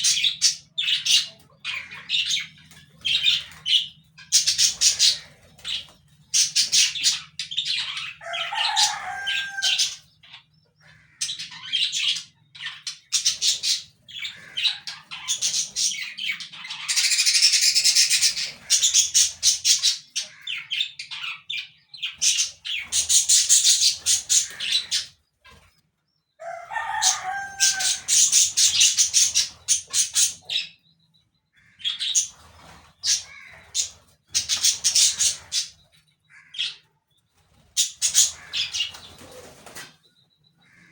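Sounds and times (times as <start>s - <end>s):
parakeets chirping and chattering: 0.0s - 40.9s.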